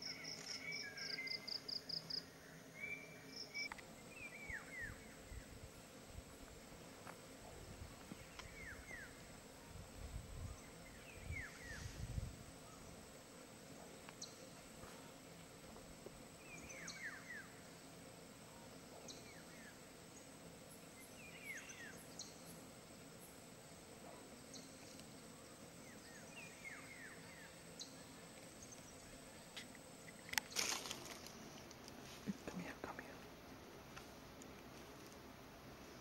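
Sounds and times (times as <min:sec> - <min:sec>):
faint forest ambience: 0:00.0 - 0:36.0.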